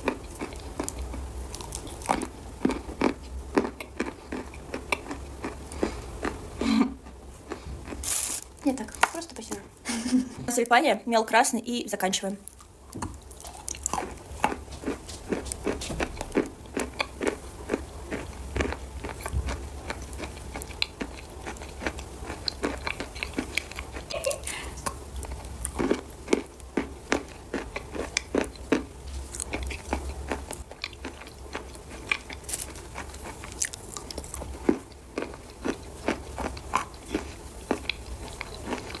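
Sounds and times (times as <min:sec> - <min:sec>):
chalk being chewed crunching: 0:00.0 - 0:06.4, 0:07.5 - 0:08.6, 0:12.4 - 0:24.2, 0:24.8 - 0:39.0
steady low hum: 0:00.0 - 0:39.0.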